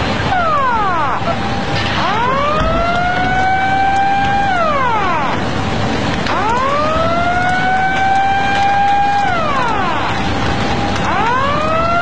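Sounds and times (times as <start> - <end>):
steady rushing noise: 0.0 - 12.0
warning siren wailing: 0.0 - 12.0.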